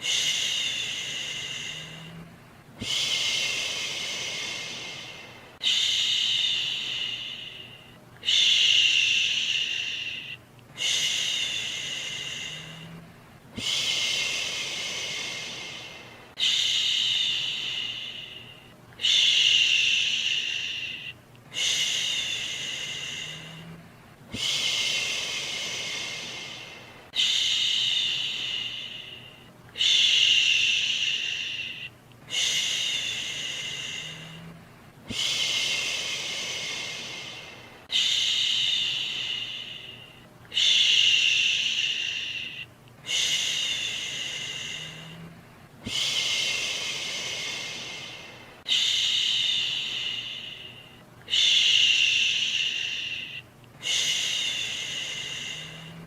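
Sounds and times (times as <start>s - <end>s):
person shushing: 0.0s - 56.0s.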